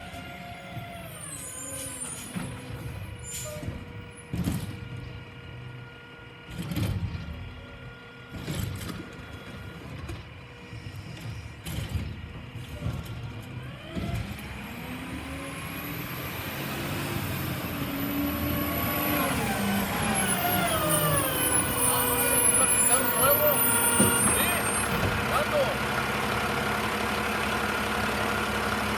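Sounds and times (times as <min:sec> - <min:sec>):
truck engine running: 0:00.0 - 0:28.9.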